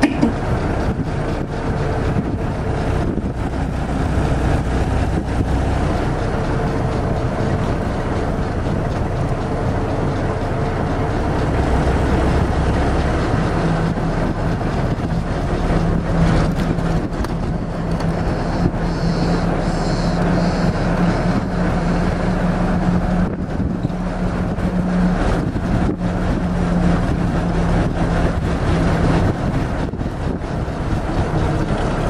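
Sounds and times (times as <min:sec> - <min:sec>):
jeep engine running: 0:00.0 - 0:32.0
road noise: 0:00.0 - 0:32.0.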